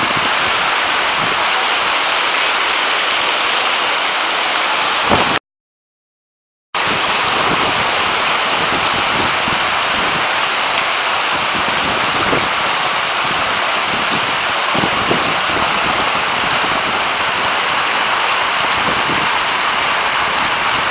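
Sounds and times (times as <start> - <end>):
heavy rain pouring: 0.0 - 5.4, 6.8 - 20.9.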